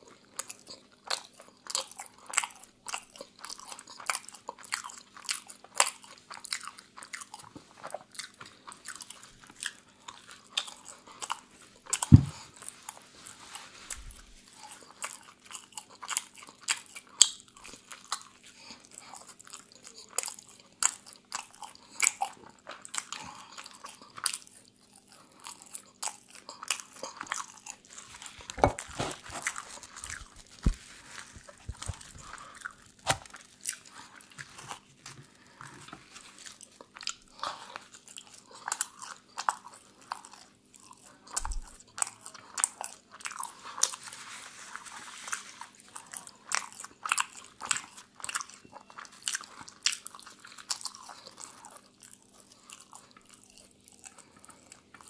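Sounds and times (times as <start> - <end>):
chewing crusty pizza: 0.0 - 55.0.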